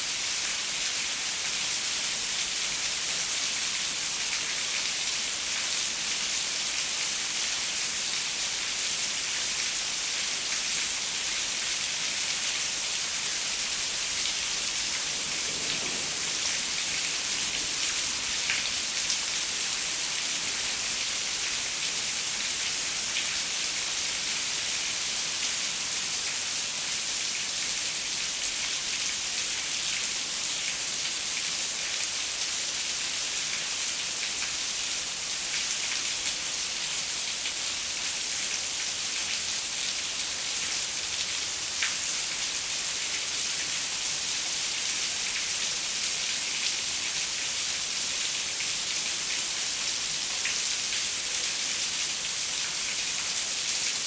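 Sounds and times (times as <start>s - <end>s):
rain on a window pane: 9.1s - 54.0s.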